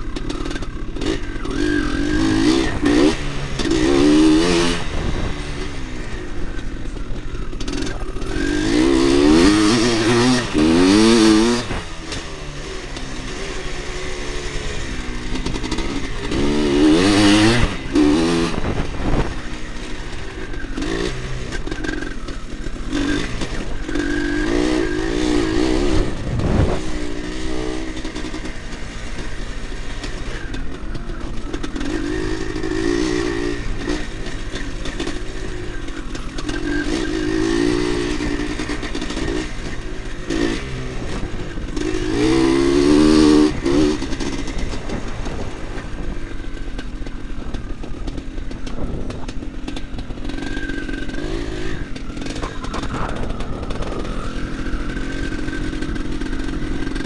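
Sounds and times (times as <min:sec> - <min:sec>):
two-stroke motocross engine revving: 0:00.0 - 0:57.0.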